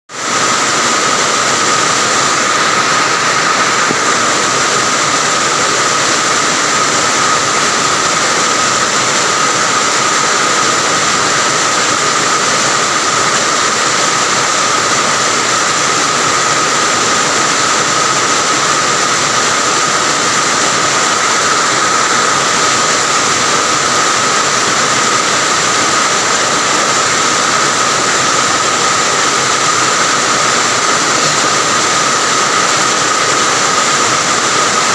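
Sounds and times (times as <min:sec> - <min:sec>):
heavy rain hiss: 0:00.2 - 0:34.9
steady high tone: 0:00.2 - 0:34.9.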